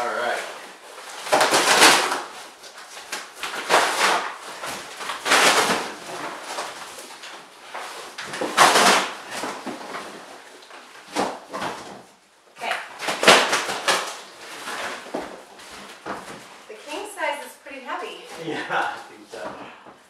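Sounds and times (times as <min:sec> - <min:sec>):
plastic-wrapped mattress rustling: 0:00.0 - 0:19.8.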